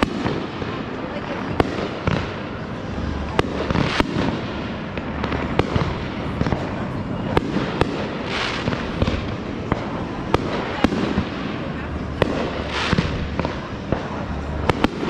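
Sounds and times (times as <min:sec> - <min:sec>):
fireworks cracking and popping: 0:00.0 - 0:15.0
fireworks hissing: 0:00.0 - 0:15.0.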